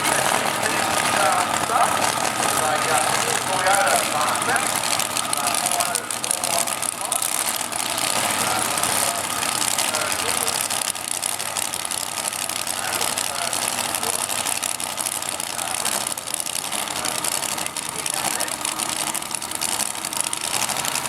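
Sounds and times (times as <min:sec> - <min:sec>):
voices in background: 0:00.0 - 0:10.9, 0:12.6 - 0:19.1
car engines idling: 0:00.0 - 0:21.0.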